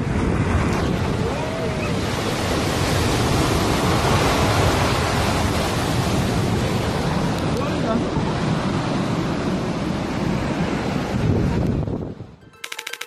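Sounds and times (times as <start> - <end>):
waves crashing over a seawall: 0.0 - 11.6.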